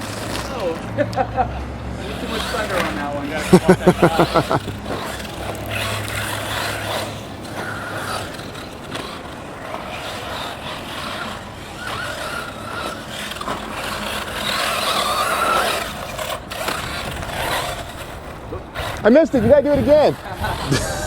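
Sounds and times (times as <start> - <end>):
tyres on dirt: 0.0 - 21.0.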